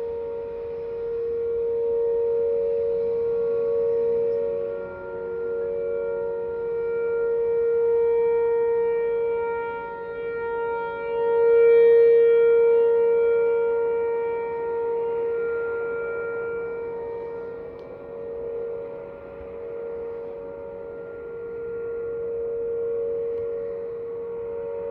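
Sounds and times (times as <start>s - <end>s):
tornado warning siren: 0.0s - 24.9s.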